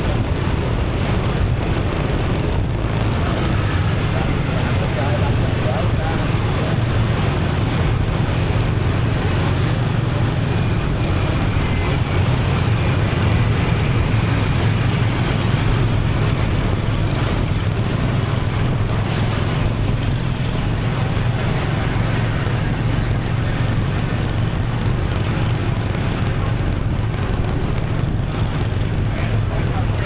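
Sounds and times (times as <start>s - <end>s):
motorbike engine humming: 0.0s - 30.0s
road and traffic noise: 0.0s - 30.0s
wind buffeting microphone: 0.0s - 30.0s.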